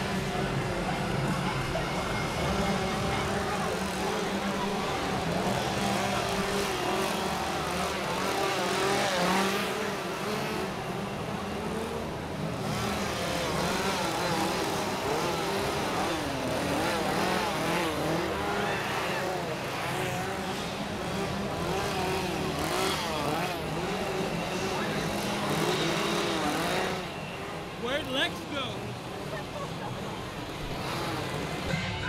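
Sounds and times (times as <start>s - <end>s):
chainsaws revving: 1.2s - 31.7s.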